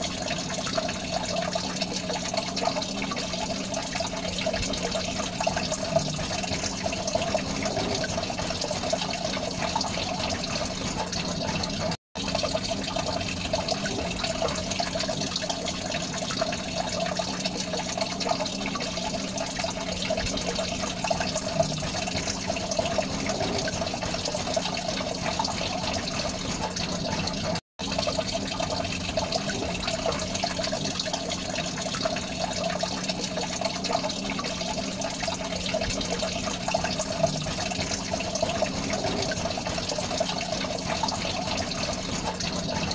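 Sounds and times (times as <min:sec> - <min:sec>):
water bubbling in fish tank: 0:00.0 - 0:42.9
constant low hum: 0:00.1 - 0:42.9.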